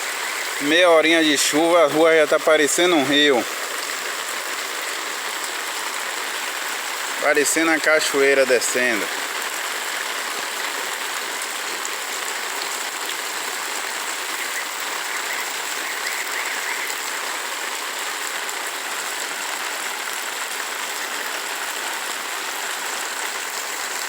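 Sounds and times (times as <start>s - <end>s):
floodwater rushing down street: 0.0s - 24.0s
heavy rain: 0.0s - 24.0s.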